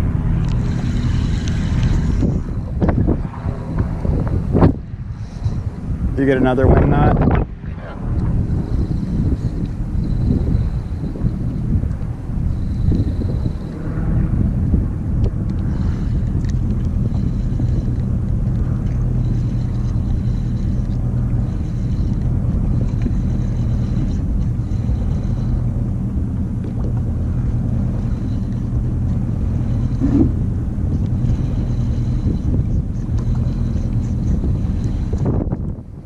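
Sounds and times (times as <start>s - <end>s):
outboard engine idling: 0.0s - 36.0s
wind buffeting microphone: 0.0s - 36.0s.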